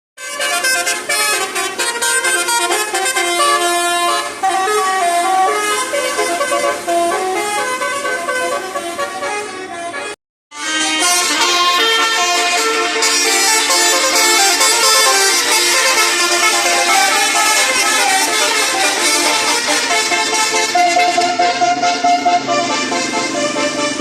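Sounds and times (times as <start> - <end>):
multi-tone musical horn: 0.2 - 24.0.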